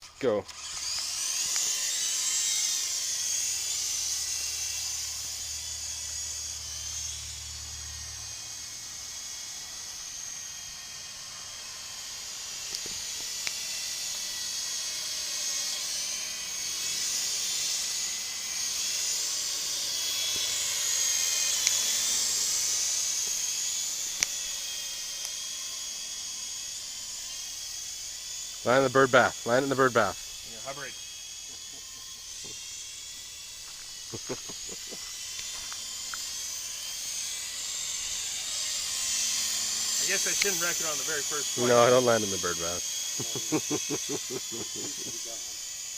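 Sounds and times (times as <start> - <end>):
toy helicopter rotors whining: 0.0 - 45.9.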